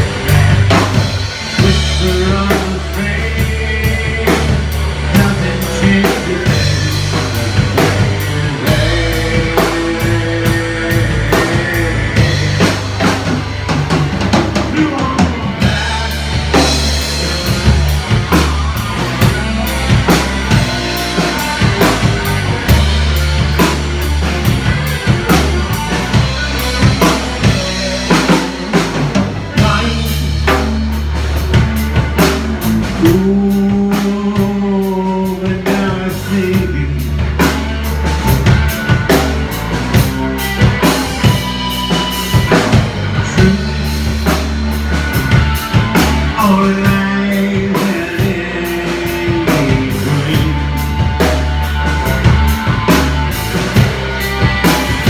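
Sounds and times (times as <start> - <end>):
rock band jamming: 0.0 - 55.0
wavering lead guitar notes: 0.0 - 55.0.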